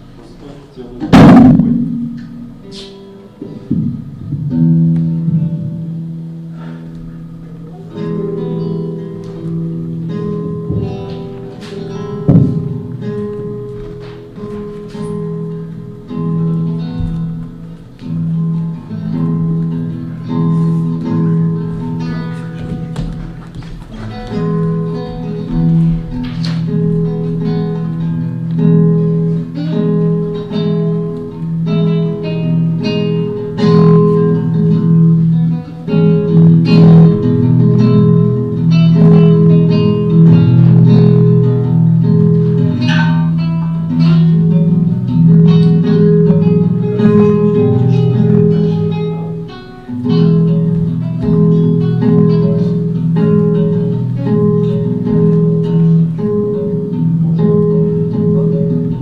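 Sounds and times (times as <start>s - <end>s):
plucked guitar music: 0.0s - 59.0s.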